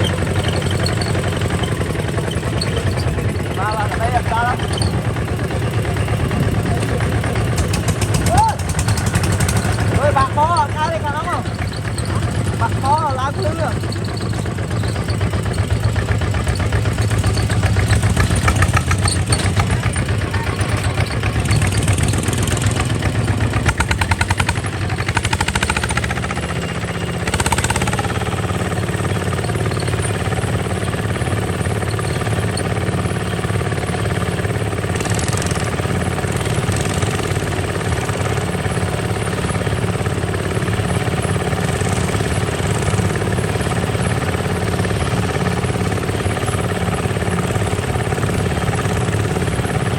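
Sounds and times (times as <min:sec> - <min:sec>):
single-cylinder diesel engine running: 0:00.0 - 0:49.9.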